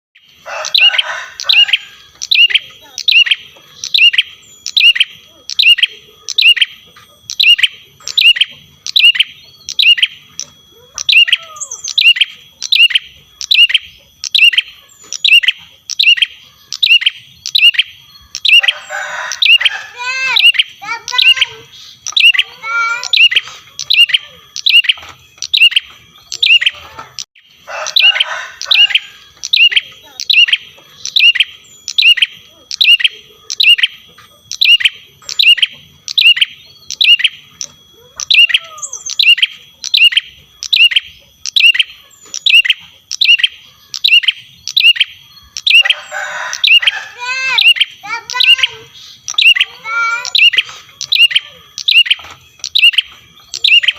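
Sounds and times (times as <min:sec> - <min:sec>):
bird chirping: 0:00.2 - 0:53.9
buzzy bird trilling chatter: 0:00.2 - 0:53.9.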